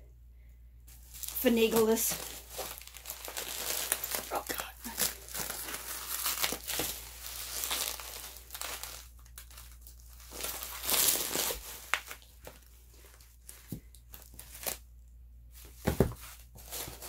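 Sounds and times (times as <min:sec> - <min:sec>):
plastic packaging crinkling: 0:00.9 - 0:14.9, 0:15.9 - 0:17.0.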